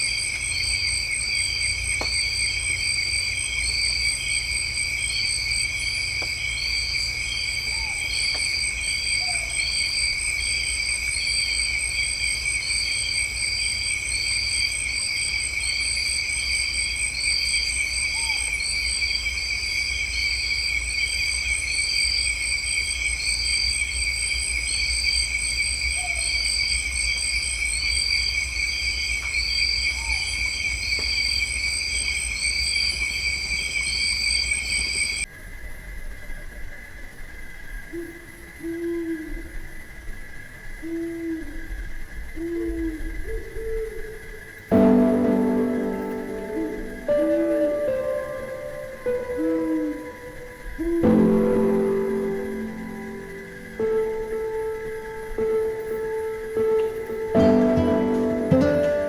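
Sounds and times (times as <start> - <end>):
insects trilling: 0.0 - 35.3, 37.3 - 59.0.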